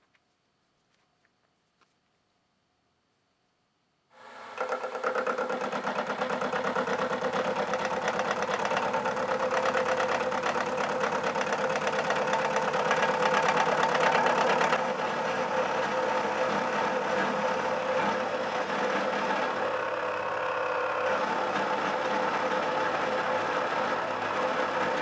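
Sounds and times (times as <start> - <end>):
machine tool motor whine: 4.2 - 25.0.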